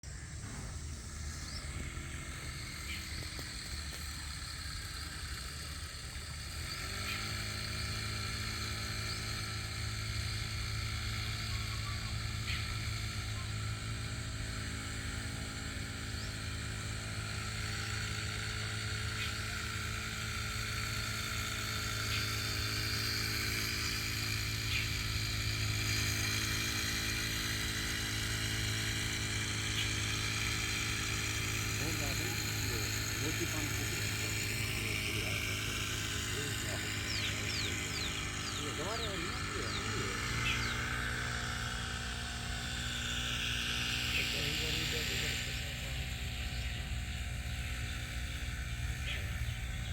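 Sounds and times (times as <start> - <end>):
engine starting and running: 0.0 - 49.9.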